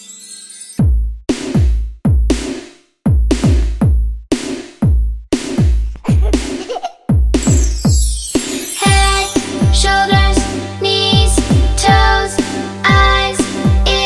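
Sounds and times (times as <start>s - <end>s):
drum machine beat: 1.3s - 14.0s.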